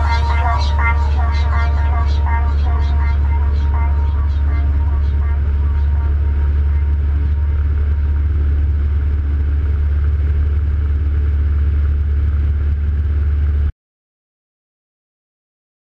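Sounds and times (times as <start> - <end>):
light aircraft engine drone in cabin: 0.0 - 13.7.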